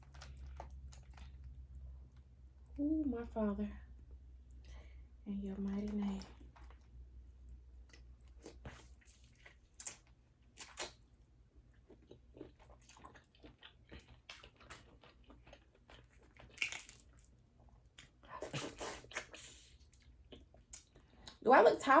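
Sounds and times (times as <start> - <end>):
close chewing mouth sounds: 0.0 - 2.3, 5.5 - 11.1, 11.7 - 21.4.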